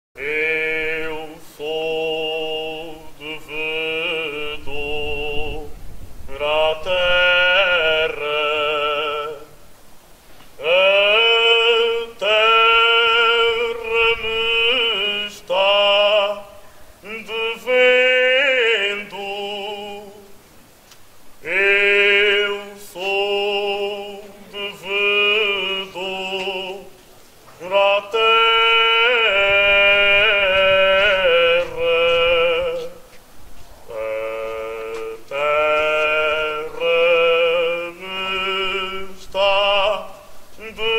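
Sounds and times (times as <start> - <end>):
person singing with vibrato: 0.2 - 20.6, 21.4 - 33.3, 33.9 - 40.9.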